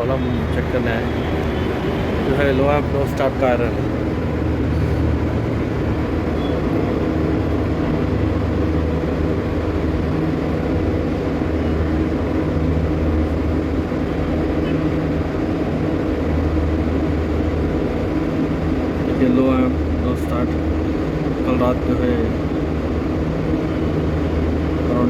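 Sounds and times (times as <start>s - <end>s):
hvac machinery drone: 0.0s - 25.0s.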